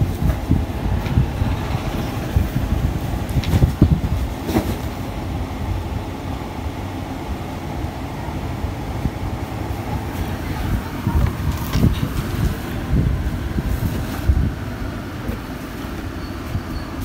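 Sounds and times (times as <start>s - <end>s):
low background rumble: 0.0s - 14.8s.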